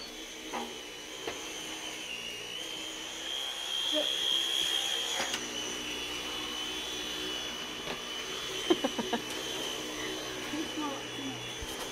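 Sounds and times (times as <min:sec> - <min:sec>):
vacuum cleaner whining: 0:00.0 - 0:11.9.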